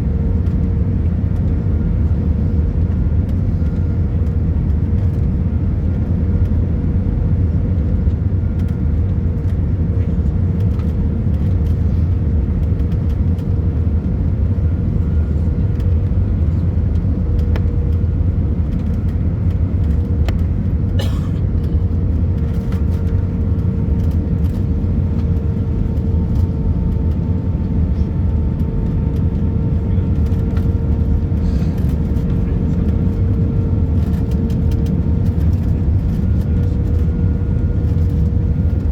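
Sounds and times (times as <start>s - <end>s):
aircraft cabin rumble: 0.0s - 38.9s.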